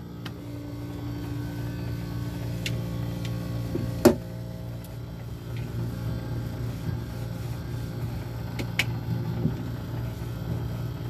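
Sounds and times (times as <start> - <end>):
refrigerator humming: 0.0 - 11.0.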